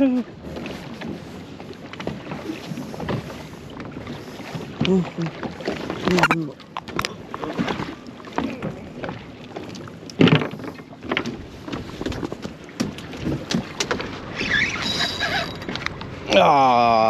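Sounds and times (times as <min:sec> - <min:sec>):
water noise: 0:00.0 - 0:17.0
wind: 0:00.0 - 0:17.0.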